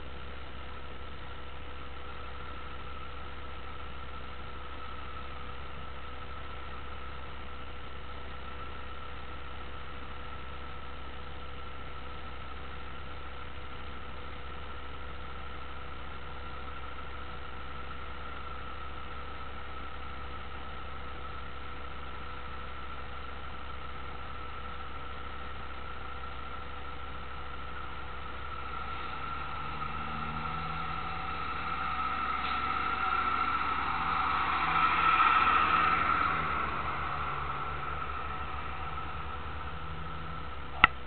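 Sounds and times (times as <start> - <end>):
thin steady whine: 0.0 - 41.0
vehicle engine idling: 0.0 - 41.0.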